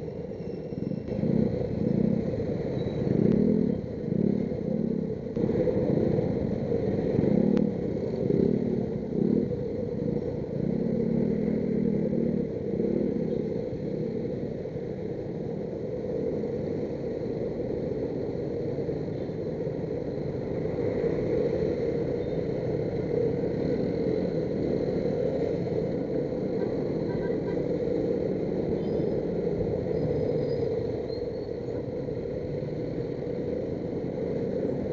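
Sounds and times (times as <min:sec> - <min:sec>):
heavy road traffic rumble: 0:00.0 - 0:34.9
motorcycle engines: 0:00.0 - 0:34.9.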